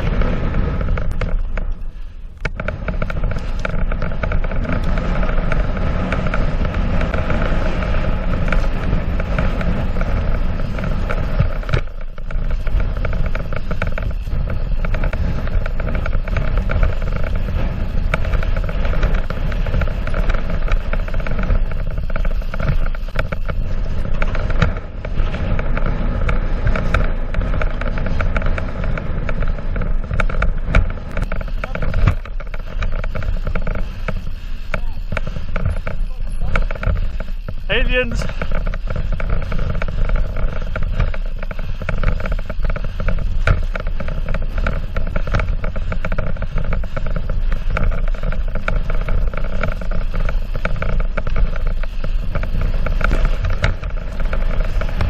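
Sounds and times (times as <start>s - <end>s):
bike rattling over ground: 0.0s - 55.0s
bike tyres rolling: 0.0s - 55.0s
wind on microphone: 0.0s - 55.0s.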